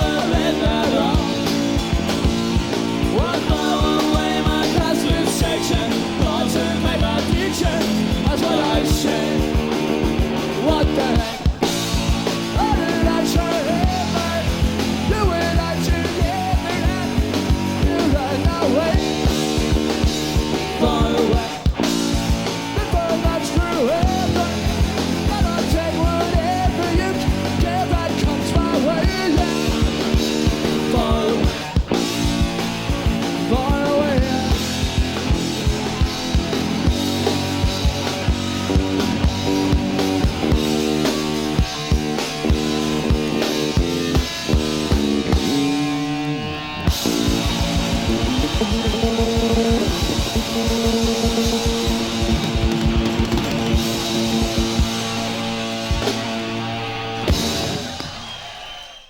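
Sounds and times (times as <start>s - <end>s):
bending guitar lines: 0.0s - 58.9s
punk rock band playing: 0.0s - 59.0s.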